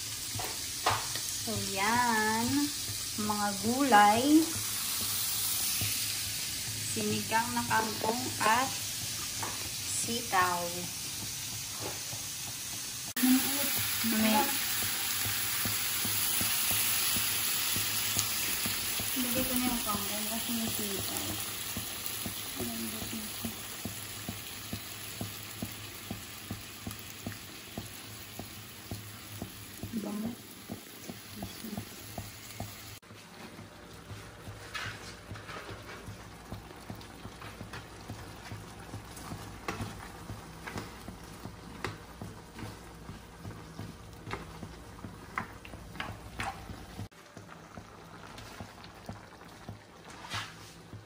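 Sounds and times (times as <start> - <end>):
sauce simmering and sizzling: 0.0 - 51.0
utensil tapping frying pan: 0.2 - 50.1.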